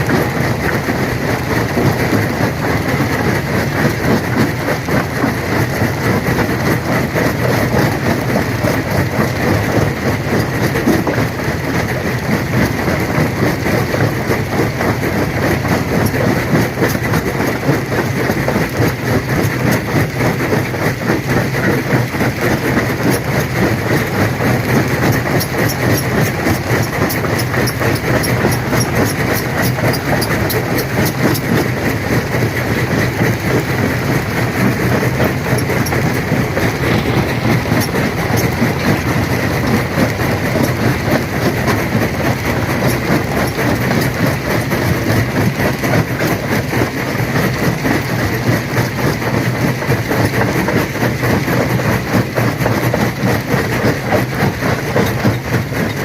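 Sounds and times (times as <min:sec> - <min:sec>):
stone crusher machine hum: 0:00.0 - 0:56.0.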